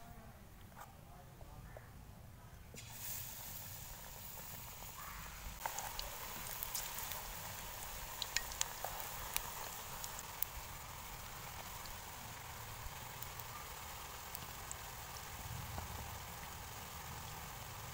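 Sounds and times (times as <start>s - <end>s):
batter sizzling in hot oil: 2.8s - 17.9s
oil crackling and popping: 2.8s - 17.9s.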